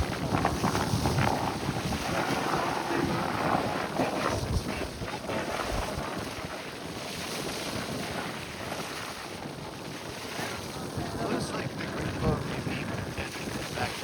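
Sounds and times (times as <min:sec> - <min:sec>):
rushing water: 0:00.0 - 0:14.0
wind buffeting microphone: 0:00.0 - 0:14.0.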